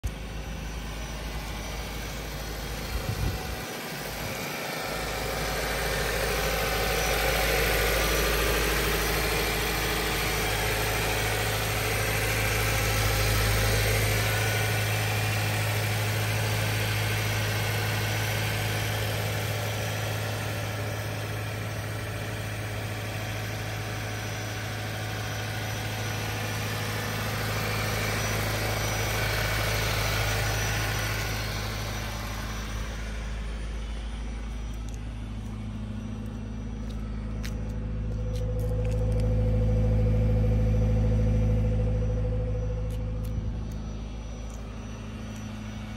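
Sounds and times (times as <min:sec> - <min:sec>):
car engine idling: 0:00.0 - 0:45.9
steady low hum: 0:00.0 - 0:45.9.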